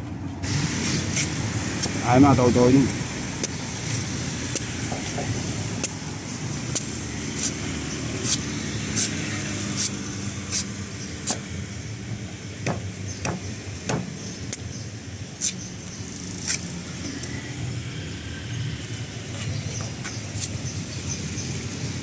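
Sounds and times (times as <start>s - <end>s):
cleaver cutting coconut husk: 0.5s - 11.6s, 12.2s - 17.6s, 19.2s - 22.0s.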